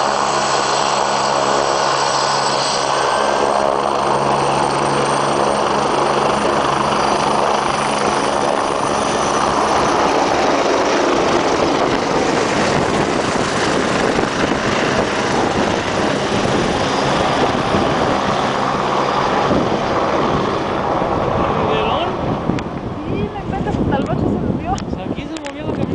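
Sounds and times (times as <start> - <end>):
helicopter rotor and engine: 0.0 - 25.9.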